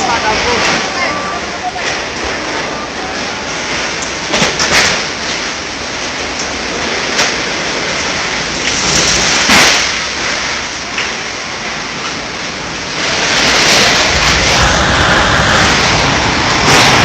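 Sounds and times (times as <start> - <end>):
wind and heavy rain: 0.0 - 17.0.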